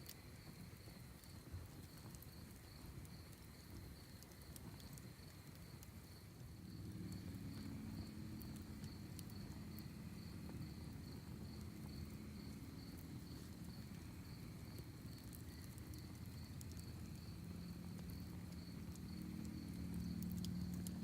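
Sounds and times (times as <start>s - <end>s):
crickets chirping: 0.0s - 21.0s
wood fire crackling: 0.0s - 21.0s.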